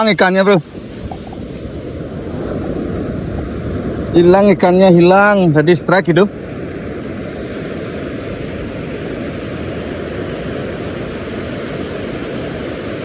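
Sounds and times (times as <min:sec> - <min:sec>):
surf rushing: 0:00.0 - 0:13.0
wind: 0:00.0 - 0:13.0.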